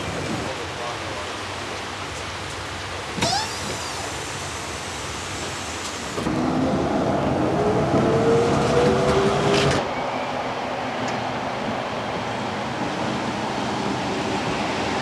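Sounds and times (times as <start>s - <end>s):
tram rolling noise: 0.0s - 15.0s.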